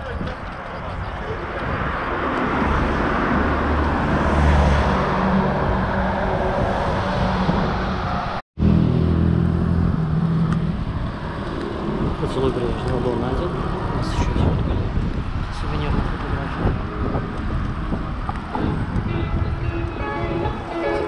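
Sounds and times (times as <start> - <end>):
car engines and tyre noise: 0.0 - 21.0.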